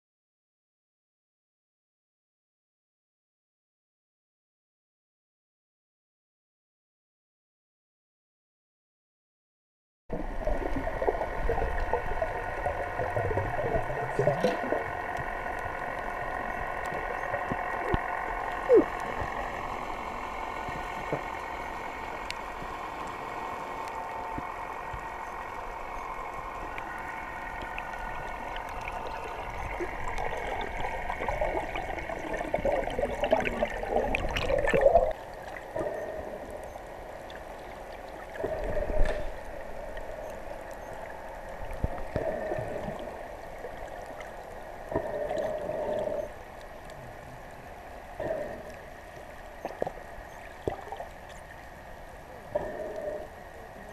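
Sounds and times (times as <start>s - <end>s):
underwater gurgling and sloshing: 10.1s - 53.9s
water surges: 10.1s - 53.9s.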